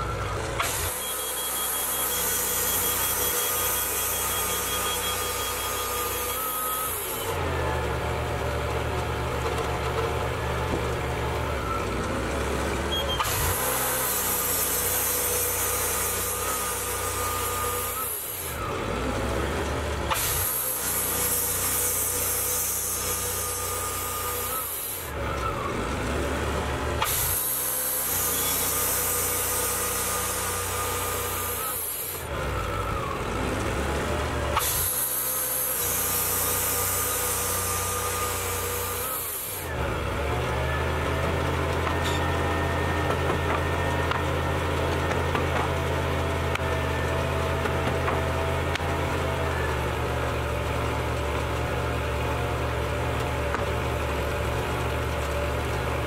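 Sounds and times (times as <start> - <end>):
band saw cutting log: 0.0 - 56.0
gas engine running: 0.0 - 56.0.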